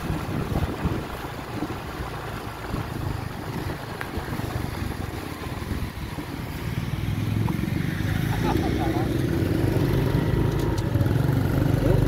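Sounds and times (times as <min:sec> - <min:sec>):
low uneven rumble: 0:00.0 - 0:11.9
motorcycle engine running: 0:00.0 - 0:12.0.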